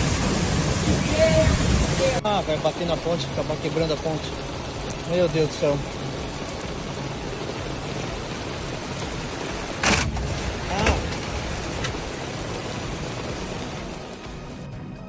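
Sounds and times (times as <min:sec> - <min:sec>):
floodwater rushing: 0:00.0 - 0:14.6.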